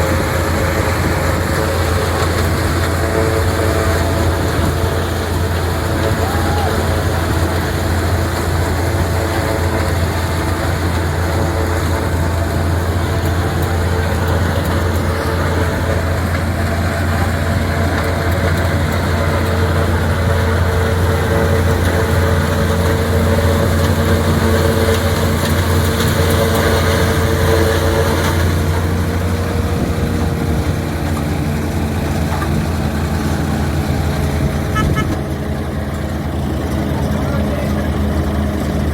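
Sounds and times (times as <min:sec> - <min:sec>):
machine whine: 0:00.0 - 0:38.9
tractor diesel engine drone: 0:00.0 - 0:38.9.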